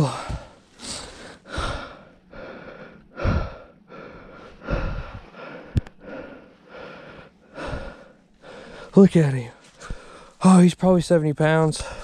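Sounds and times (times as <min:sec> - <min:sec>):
man breathing hard: 0:00.0 - 0:09.0, 0:09.7 - 0:10.4, 0:11.8 - 0:12.0.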